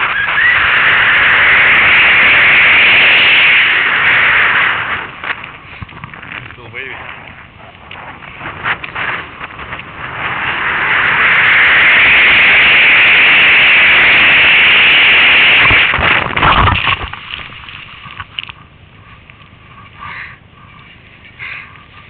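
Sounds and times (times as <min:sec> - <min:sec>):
skier falling in snow: 0:00.0 - 0:20.0
wind rushing over microphone: 0:00.0 - 0:22.0.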